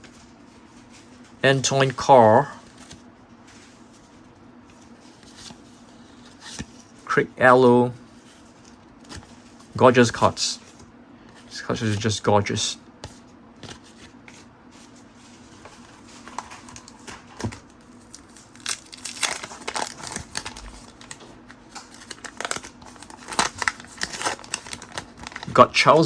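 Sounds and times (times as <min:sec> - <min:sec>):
trading cards rustling: 0:00.7 - 0:07.2, 0:08.1 - 0:26.0.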